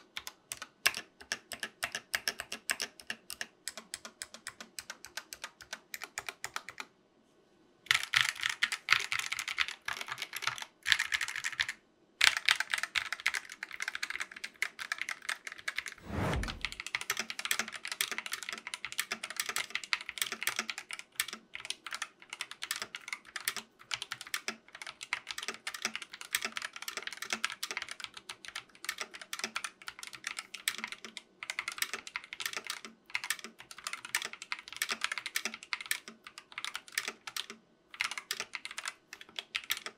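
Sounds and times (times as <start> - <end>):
fast keyboard typing: 0.2 - 6.9, 7.9 - 16.0, 16.6 - 39.9.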